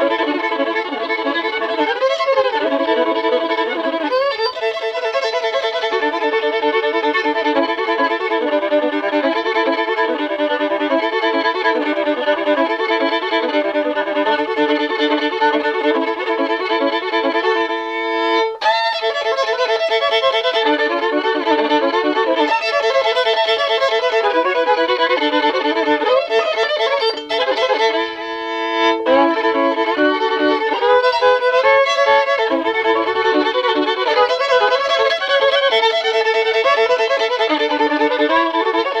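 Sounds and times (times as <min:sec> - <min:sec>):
fiddle playing fast tune: 0:00.0 - 0:39.0.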